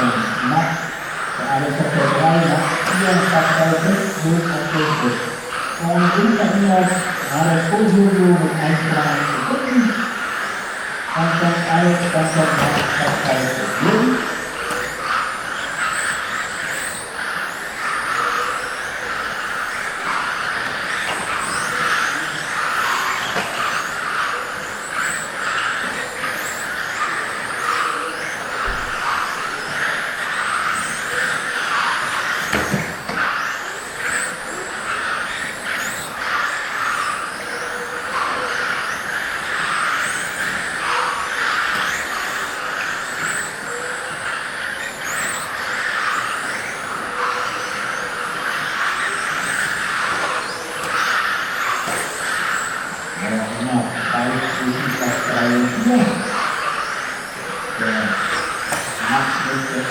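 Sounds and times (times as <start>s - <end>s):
high motor whines: 0.0s - 59.9s
rc cars motors whirring: 0.0s - 59.9s.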